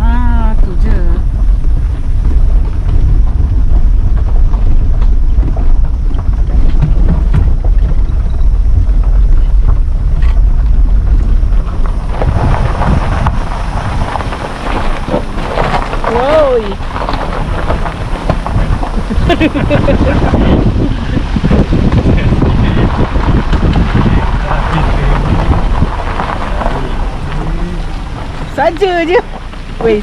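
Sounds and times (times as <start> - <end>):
wind buffeting microphone: 0.0 - 30.0
rain-like hiss: 0.1 - 30.0.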